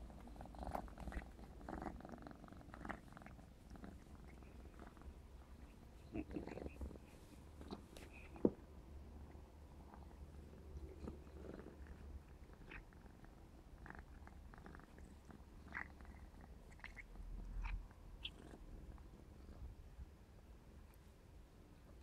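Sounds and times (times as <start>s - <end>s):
kitten purring: 0.0s - 20.0s.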